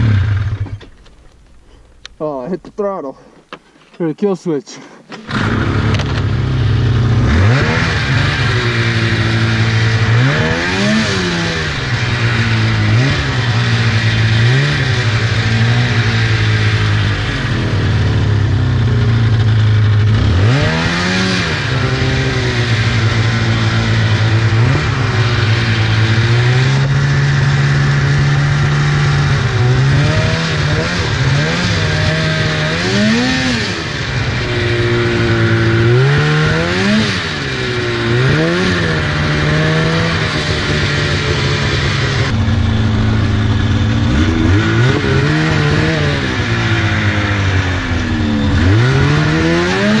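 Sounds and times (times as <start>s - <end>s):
snowmobile engine revving: 0.0s - 0.8s, 5.1s - 50.0s.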